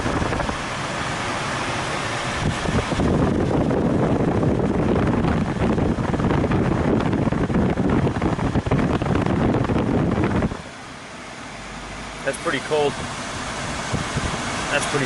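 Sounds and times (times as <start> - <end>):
air conditioning fans rushing: 0.0 - 15.0.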